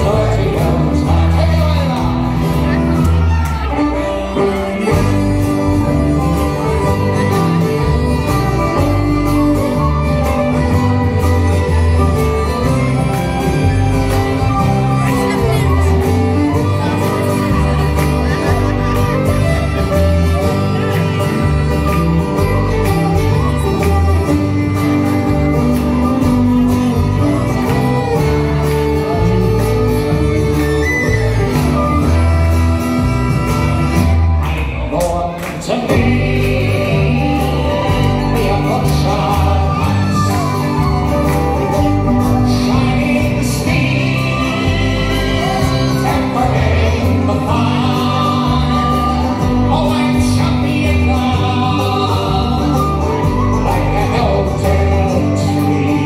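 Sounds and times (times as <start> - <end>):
person singing: 0.0 - 32.3, 34.5 - 56.0
folk band playing: 0.0 - 56.0.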